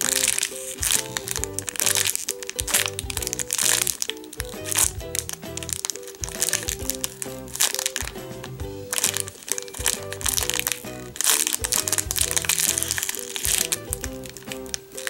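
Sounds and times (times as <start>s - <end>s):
light cheerful background music: 0.0s - 15.0s
plastic bag crinkling: 0.0s - 15.0s.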